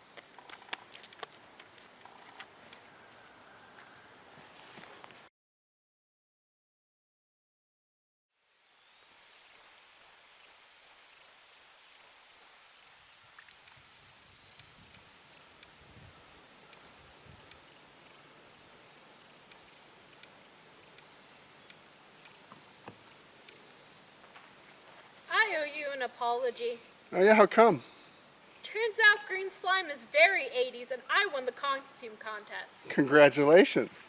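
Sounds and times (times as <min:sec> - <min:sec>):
crickets chirping: 0:00.0 - 0:05.3, 0:08.4 - 0:34.0.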